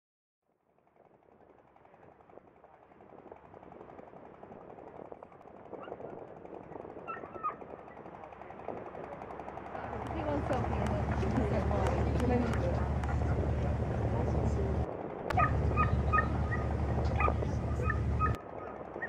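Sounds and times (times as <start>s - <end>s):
dense crackling background: 0.6s - 19.0s.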